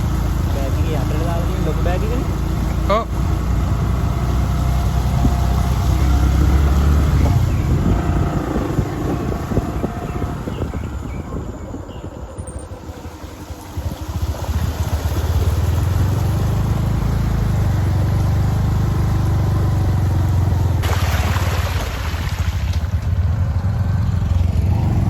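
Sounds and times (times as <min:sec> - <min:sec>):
motorcycle engine running: 0:00.0 - 0:20.8, 0:22.8 - 0:25.0.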